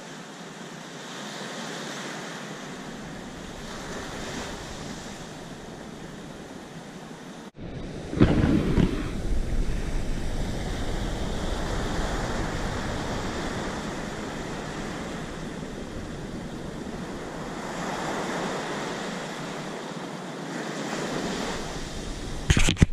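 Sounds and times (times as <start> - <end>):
surf washing on a beach: 0.0 - 22.9
wind buffeting the microphone: 2.6 - 22.9.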